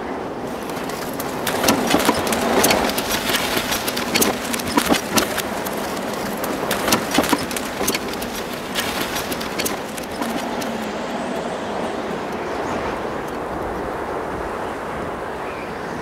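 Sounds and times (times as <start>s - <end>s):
ox hooves stepping: 0.5s - 14.2s
wooden cart wheels rattling: 0.5s - 14.4s.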